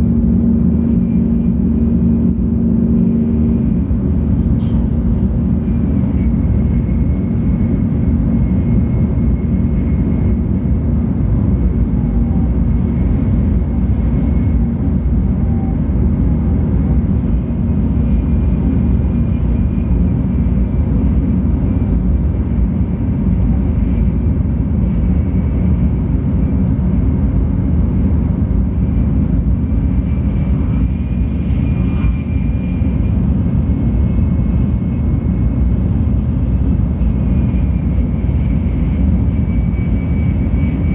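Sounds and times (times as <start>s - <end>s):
faint high whine: 0.0s - 40.9s
train cabin rumble: 0.0s - 40.9s.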